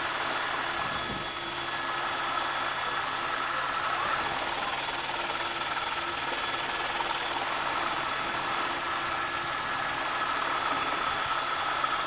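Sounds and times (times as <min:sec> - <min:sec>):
constant whine: 0:00.0 - 0:12.0
helicopter engine and rotor drone: 0:00.0 - 0:12.0.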